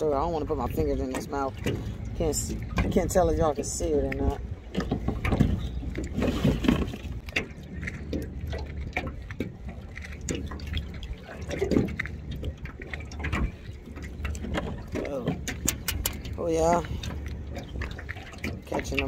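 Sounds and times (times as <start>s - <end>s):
low steady rumble: 0.0s - 19.0s
water sloshing and dripping: 0.0s - 19.0s.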